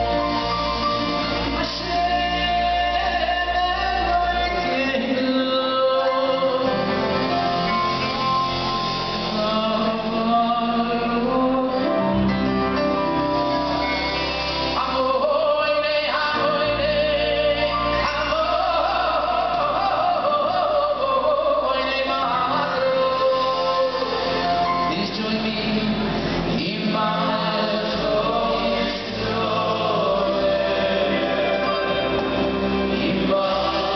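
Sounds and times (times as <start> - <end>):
live band playing: 0.0 - 33.9
man singing into a microphone: 0.7 - 7.2, 9.1 - 12.3, 14.7 - 33.9.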